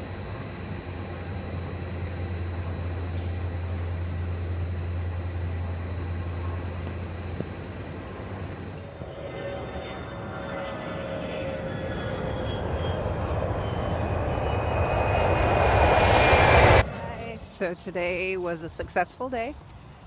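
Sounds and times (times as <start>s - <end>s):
machinery drone with high whine: 0.0s - 19.0s.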